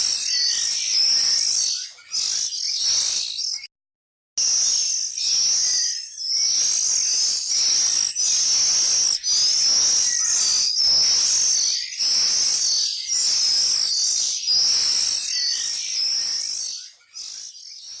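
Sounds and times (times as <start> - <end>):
nestlings begging calls: 0.0 - 3.6, 4.5 - 17.9.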